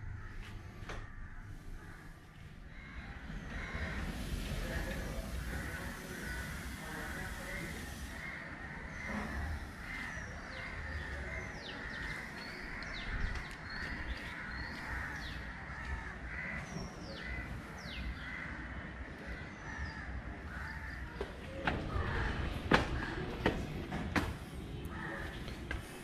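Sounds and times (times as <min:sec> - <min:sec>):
crows cawing: 0:00.0 - 0:04.8, 0:05.4 - 0:23.6, 0:24.9 - 0:25.5.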